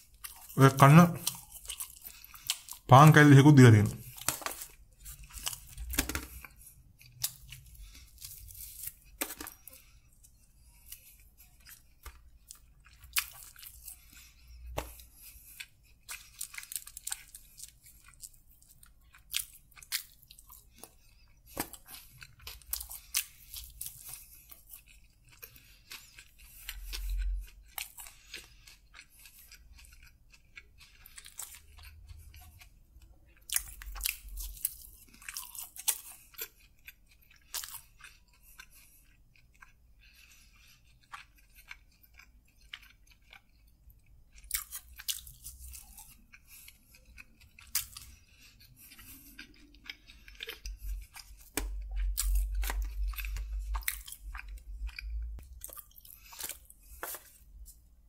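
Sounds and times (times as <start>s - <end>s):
fingers tearing food crackles: 0.0s - 57.9s
chewing and crunching food: 0.0s - 58.0s.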